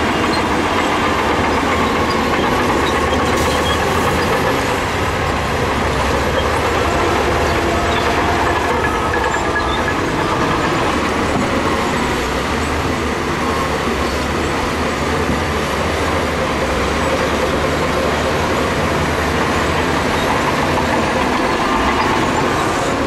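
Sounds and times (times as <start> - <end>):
heavy machinery diesel engine: 0.0 - 23.0.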